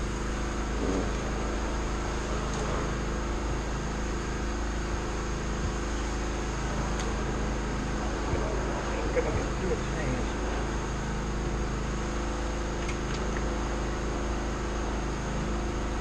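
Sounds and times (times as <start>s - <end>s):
machinery hum with low tones: 0.0s - 16.0s.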